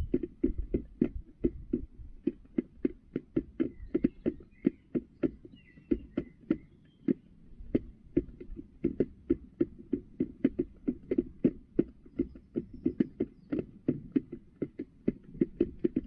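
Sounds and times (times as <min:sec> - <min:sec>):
hen pecking on plastic tray: 0:00.0 - 0:16.0.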